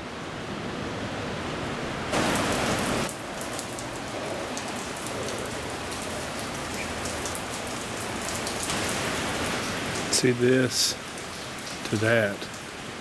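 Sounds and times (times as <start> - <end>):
heavy rain falling: 2.0 - 13.0.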